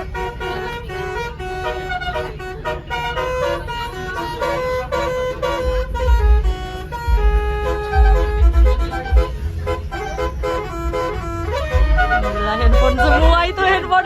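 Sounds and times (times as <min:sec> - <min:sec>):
heavy low rumble: 0:00.0 - 0:14.0
multi-tone bus horn melody: 0:00.0 - 0:14.0.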